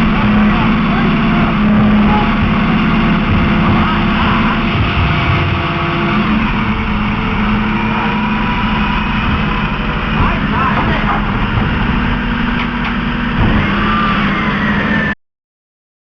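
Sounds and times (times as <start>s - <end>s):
car engine hum: 0.0s - 15.1s
road noise: 0.0s - 15.1s.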